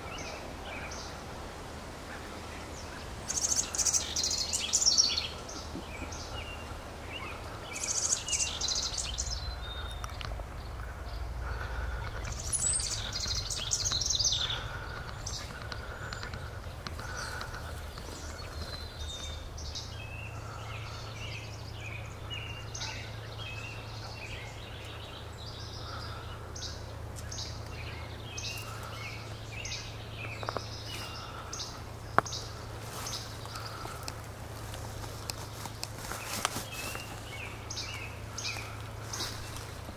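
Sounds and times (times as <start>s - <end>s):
low background rumble: 0.0s - 39.9s
songbirds chirping: 0.0s - 39.9s.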